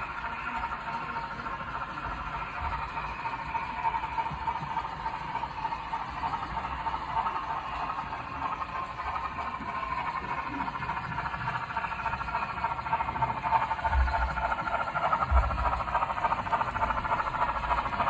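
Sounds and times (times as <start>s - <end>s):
model train motor whine: 0.0s - 18.0s
wheels rattling on rail: 0.0s - 18.0s.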